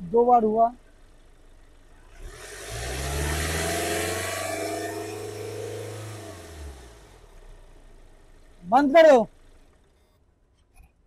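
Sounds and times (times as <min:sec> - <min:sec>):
diesel engine revving: 0:00.0 - 0:09.9.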